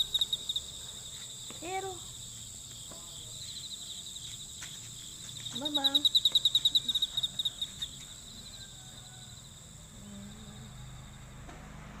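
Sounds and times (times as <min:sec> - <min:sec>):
high insect trill: 0:00.0 - 0:11.4
fast pulsed insect chirp: 0:00.0 - 0:11.5.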